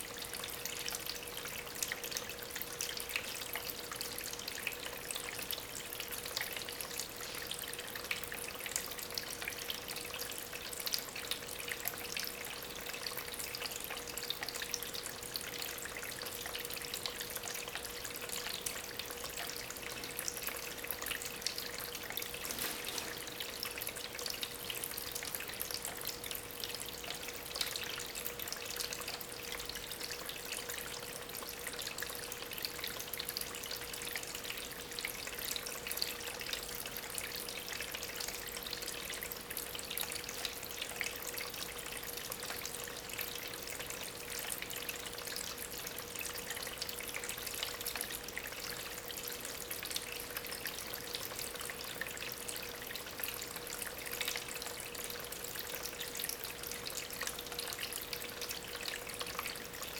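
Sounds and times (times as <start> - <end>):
faint steady hum: 0.0 - 59.9
water trickling over stones: 0.0 - 59.9.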